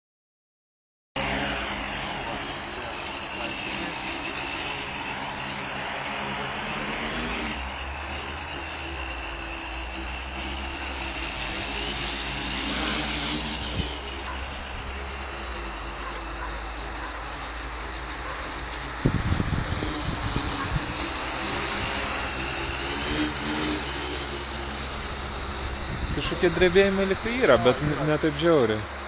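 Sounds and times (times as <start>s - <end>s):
quadcopter motors humming: 1.2s - 29.0s.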